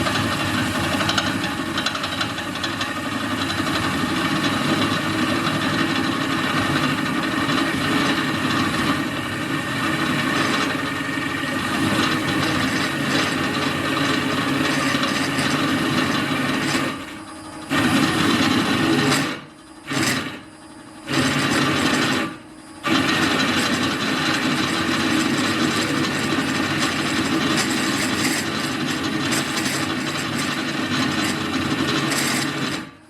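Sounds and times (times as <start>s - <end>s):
drill press cutting steel: 0.0s - 33.0s.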